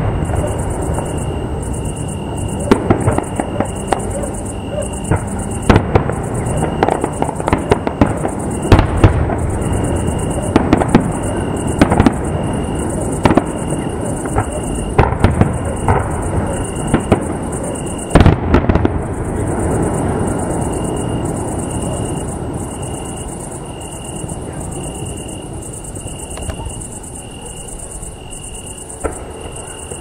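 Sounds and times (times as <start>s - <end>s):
continuous rumble: 0.0s - 30.0s
fireworks bursting bangs: 0.0s - 30.0s.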